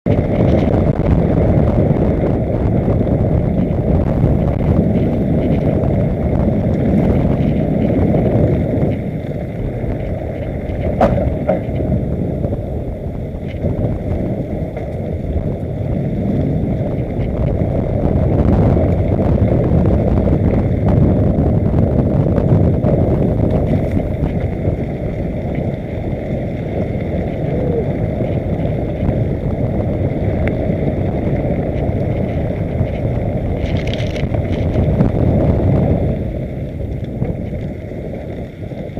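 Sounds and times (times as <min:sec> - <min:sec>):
wind buffeting microphone: 0:00.0 - 0:38.9
bicycle tyres on dirt trail: 0:00.1 - 0:38.9.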